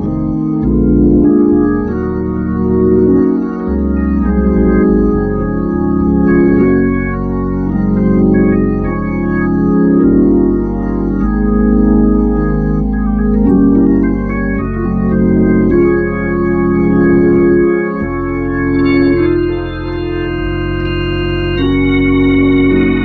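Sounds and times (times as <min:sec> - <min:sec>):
organ playing sustained chords: 0:00.0 - 0:23.0.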